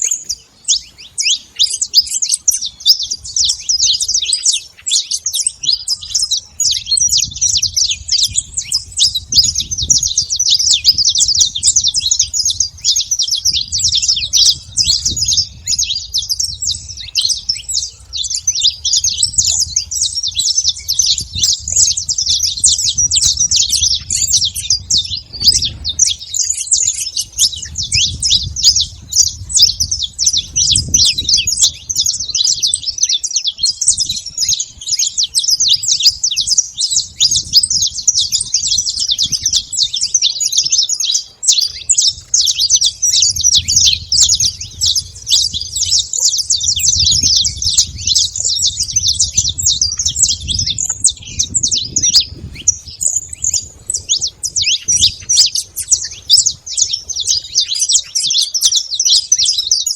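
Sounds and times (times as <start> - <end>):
finches chirping and singing: 0.0 - 59.9.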